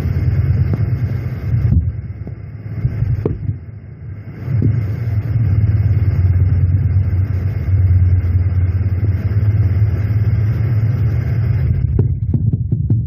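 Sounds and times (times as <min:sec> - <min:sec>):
low machine rumble: 0:00.0 - 0:13.0.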